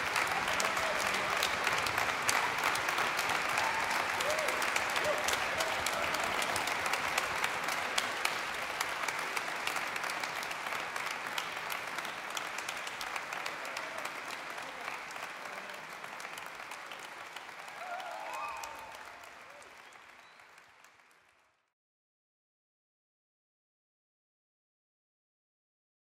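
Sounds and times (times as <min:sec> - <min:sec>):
audience applauding: 0:00.0 - 0:21.7.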